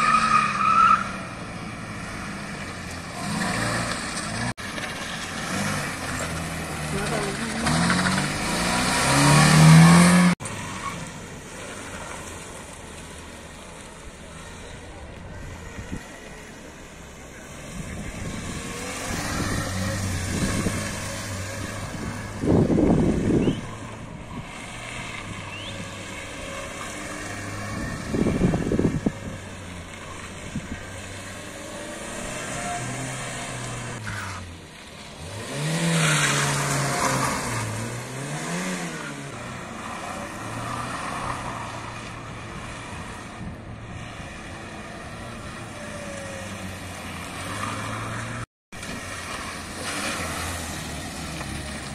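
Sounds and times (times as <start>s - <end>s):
car engine revving: 0.0s - 11.0s, 11.6s - 51.9s.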